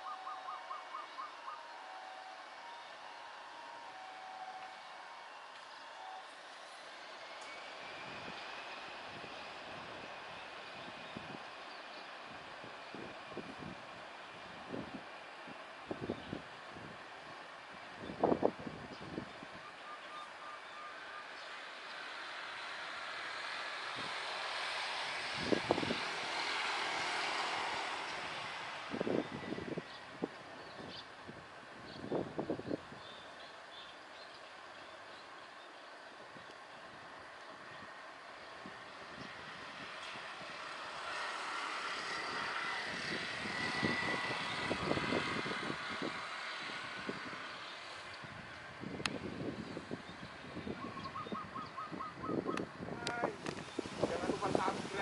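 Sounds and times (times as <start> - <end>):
faint jet whine: 0.0 - 31.2, 31.8 - 51.3, 52.9 - 55.0
airliner engines roaring overhead: 0.0 - 55.0.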